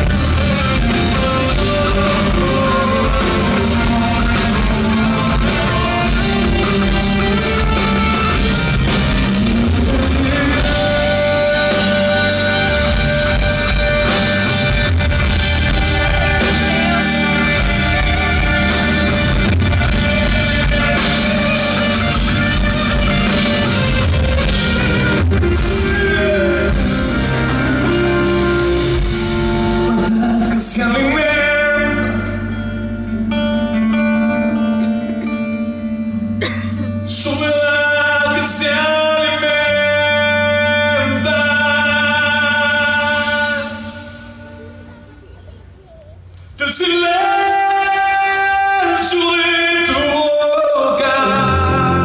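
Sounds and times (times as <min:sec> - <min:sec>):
live rock band playing: 0:00.0 - 0:46.6, 0:47.2 - 0:52.0.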